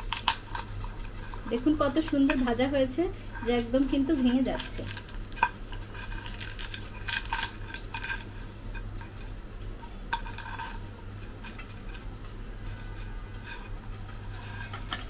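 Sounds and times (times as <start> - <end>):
fried fish crackling on plate: 0.0 - 15.0
low steady hum: 0.0 - 15.0.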